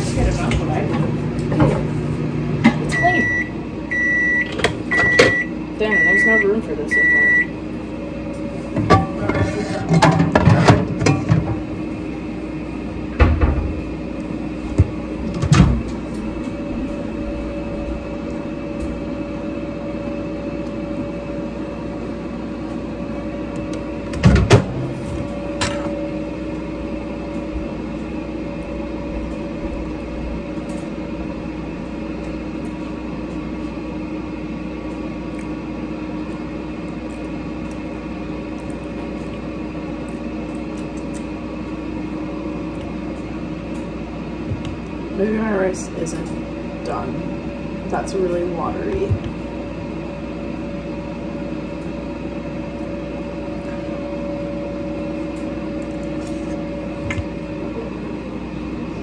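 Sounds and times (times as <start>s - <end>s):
microwave oven humming: 0.0s - 59.0s.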